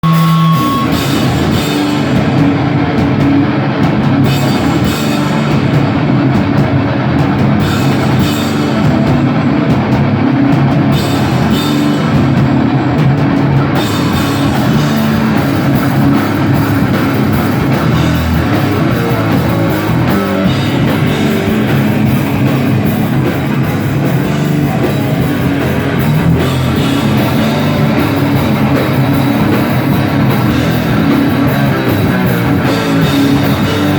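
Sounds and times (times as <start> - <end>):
heavy metal band playing: 0.0 - 33.9.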